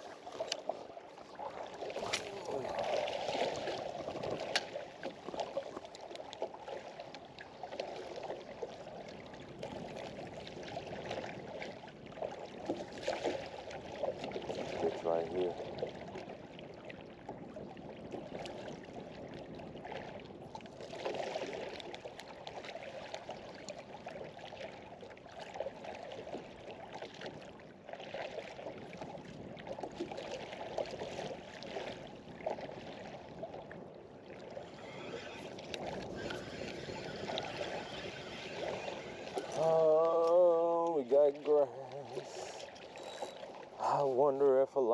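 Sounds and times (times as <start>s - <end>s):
water lapping against boat hull: 0.0s - 44.9s.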